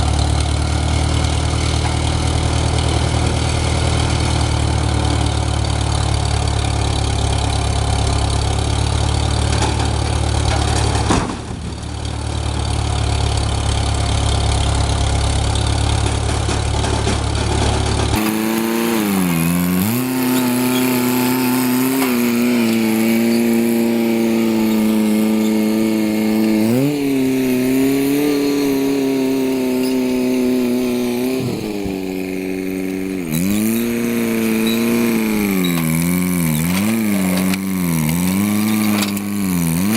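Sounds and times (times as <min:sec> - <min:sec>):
engine bogging under load: 0:00.0 - 0:39.9
engine idling: 0:00.0 - 0:39.9.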